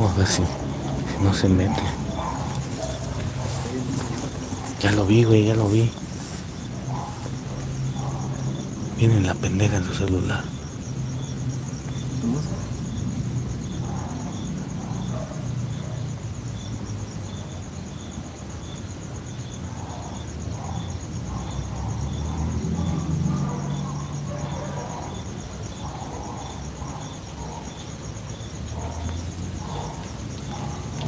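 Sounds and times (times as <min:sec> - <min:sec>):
crickets trilling: 0:00.0 - 0:31.0
lower cricket chirp: 0:00.0 - 0:31.0.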